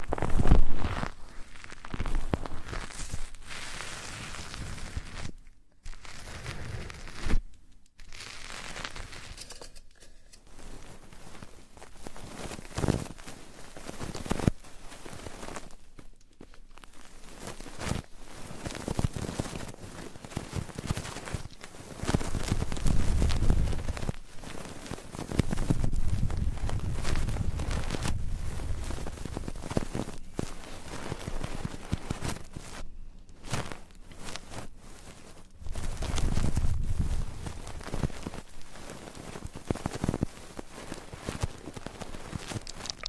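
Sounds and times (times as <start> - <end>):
rustling and scratching on microphone: 0.0 - 43.0.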